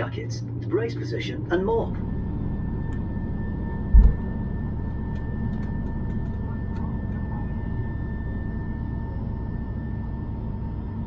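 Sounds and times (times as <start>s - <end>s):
airliner engines rumbling: 0.0s - 11.0s
faint steady whine: 0.0s - 11.0s.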